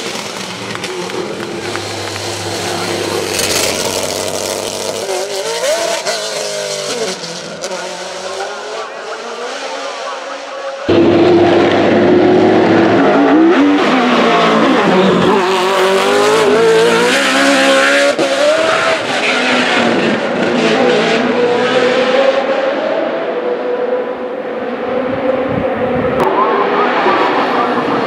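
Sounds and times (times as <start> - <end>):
racing engine revving high: 0.0 - 28.0.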